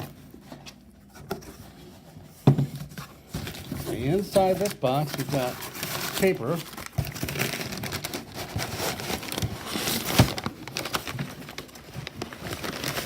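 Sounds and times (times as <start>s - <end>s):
paper packing rustling: 0.0s - 13.0s.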